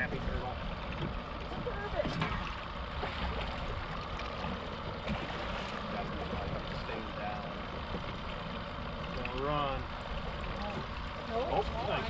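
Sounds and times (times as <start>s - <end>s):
water rushing along boat hull: 0.0s - 12.0s.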